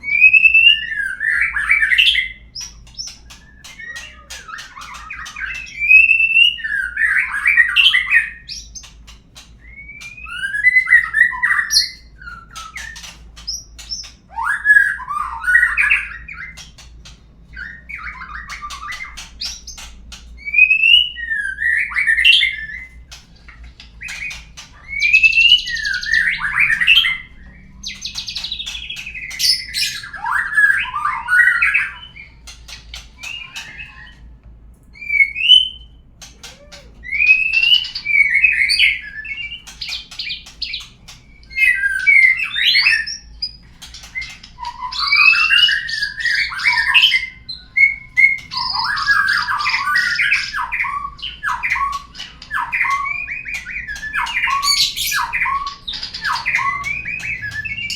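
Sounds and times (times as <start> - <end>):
songbird whistling and chattering: 0.0 - 9.0, 17.5 - 34.3, 35.0 - 57.9.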